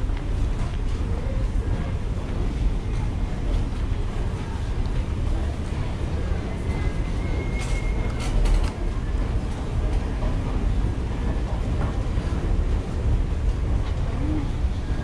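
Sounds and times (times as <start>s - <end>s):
low station rumble: 0.0s - 15.0s.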